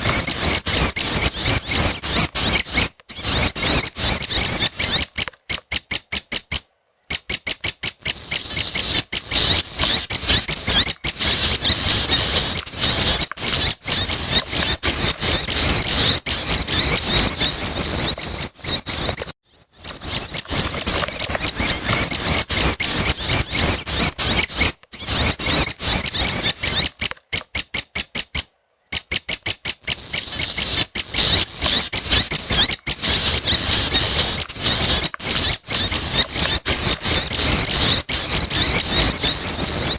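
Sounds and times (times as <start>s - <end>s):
chicks begging chirps: 0.0s - 6.3s, 7.1s - 39.9s.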